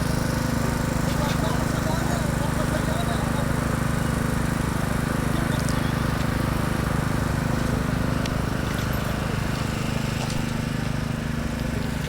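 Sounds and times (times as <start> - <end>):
engine chugging steadily: 0.0 - 12.0.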